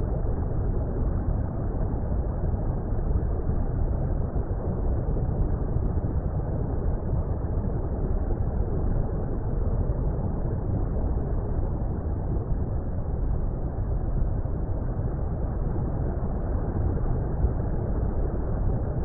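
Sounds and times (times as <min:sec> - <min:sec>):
muffled water rumble: 0:00.0 - 0:19.0.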